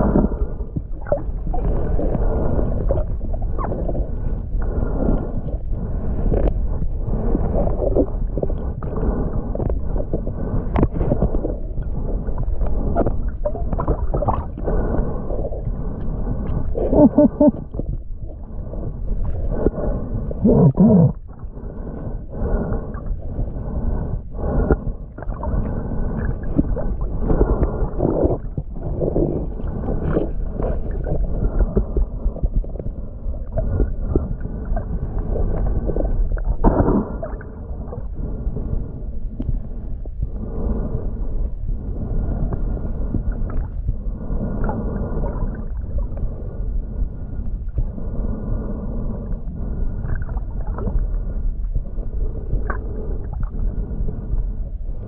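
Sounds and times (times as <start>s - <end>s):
muffled underwater water movement: 0.0s - 55.0s.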